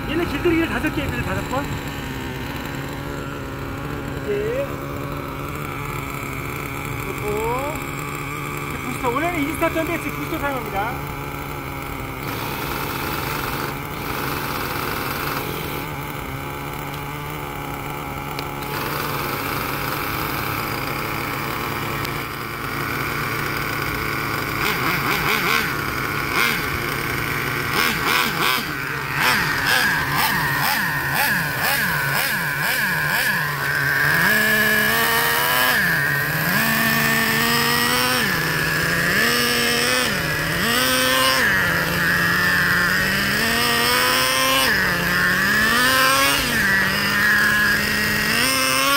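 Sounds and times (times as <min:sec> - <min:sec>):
small engine revving: 0:00.0 - 0:48.9.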